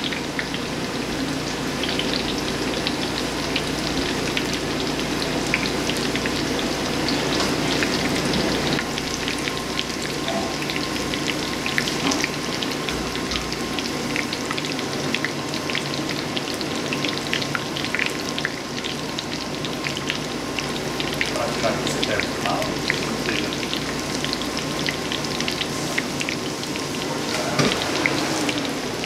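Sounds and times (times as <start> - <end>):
food deep-frying in bubbling oil: 0.0 - 29.0.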